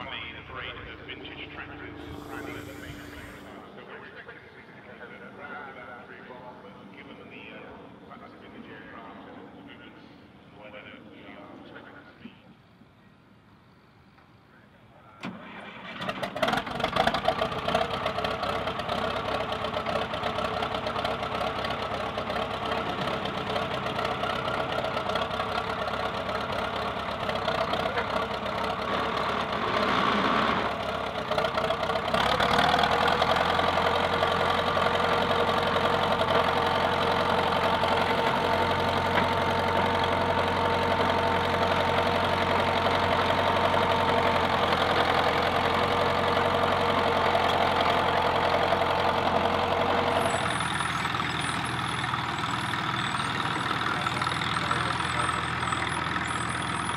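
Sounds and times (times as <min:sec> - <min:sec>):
bulldozer diesel engine running: 0:00.0 - 0:08.1, 0:15.3 - 0:56.9.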